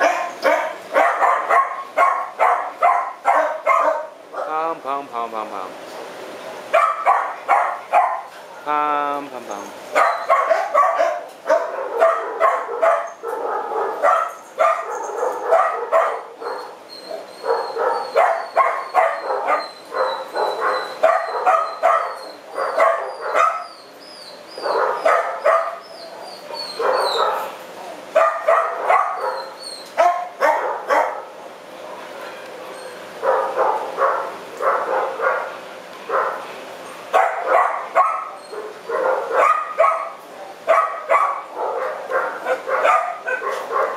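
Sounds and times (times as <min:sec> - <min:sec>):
dogs barking: 0:00.0 - 0:04.7, 0:06.7 - 0:08.7, 0:09.9 - 0:23.9, 0:24.5 - 0:36.5, 0:37.1 - 0:43.9.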